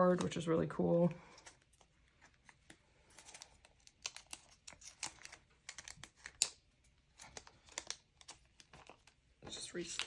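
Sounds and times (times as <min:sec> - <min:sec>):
plastic packaging crinkling: 0:01.3 - 0:10.0.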